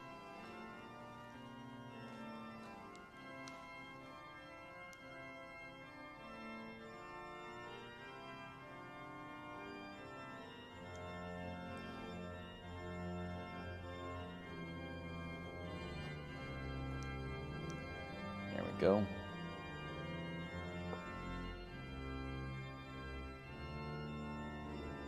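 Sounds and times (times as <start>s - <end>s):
organ playing sustained chords: 0.0s - 25.0s.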